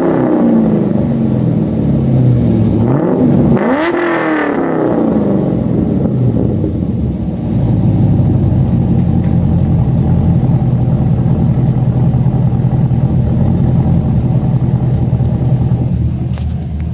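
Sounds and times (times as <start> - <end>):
car engine deep rumble: 0.0 - 16.9.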